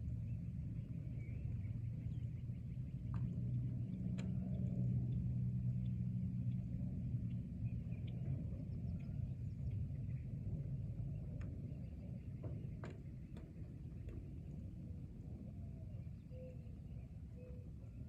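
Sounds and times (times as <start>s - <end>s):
low droning hum: 0.0s - 18.0s
low rumble: 0.0s - 18.0s.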